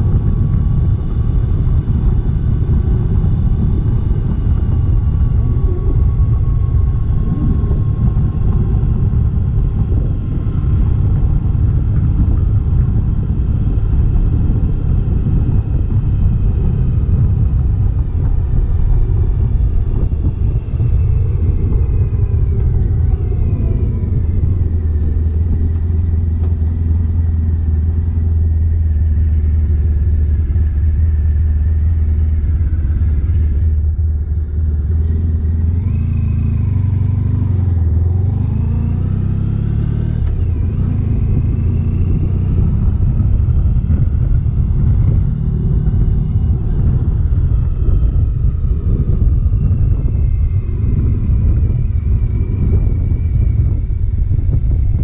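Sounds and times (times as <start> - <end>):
motorcycle engine rumble: 0.0 - 55.0
wind noise on microphone: 0.0 - 55.0.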